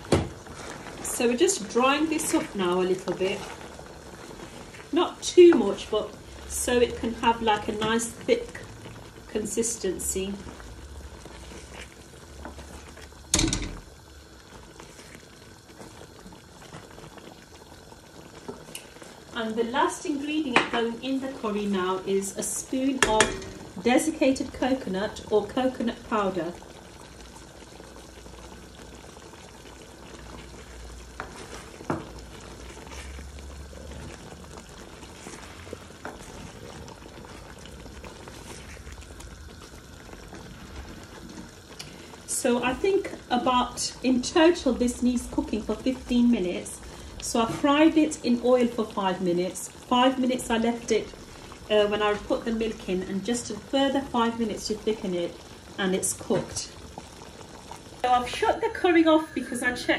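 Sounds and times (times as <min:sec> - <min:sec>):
curry bubbling in a pan: 0:00.0 - 0:59.9.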